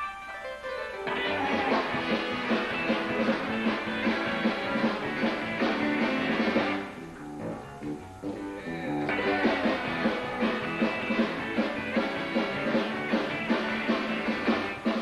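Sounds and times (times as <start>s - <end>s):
live country band playing: 0.0s - 15.0s.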